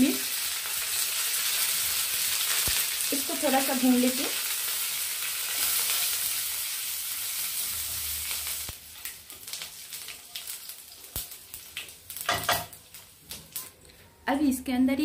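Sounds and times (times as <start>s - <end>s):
spices sizzling in hot oil: 0.0s - 13.8s.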